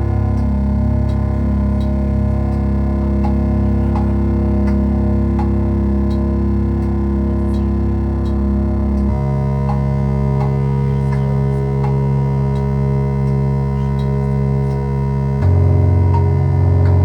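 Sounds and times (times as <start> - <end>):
low synthesizer drone chord: 0.0 - 17.0.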